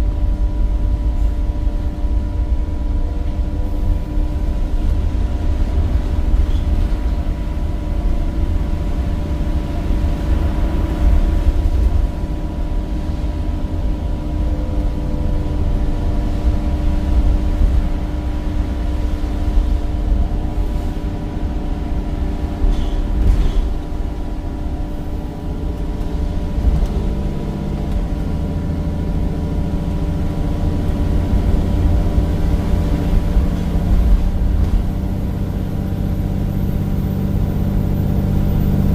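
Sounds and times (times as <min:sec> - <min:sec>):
bus diesel engine rumble: 0:00.0 - 0:38.9.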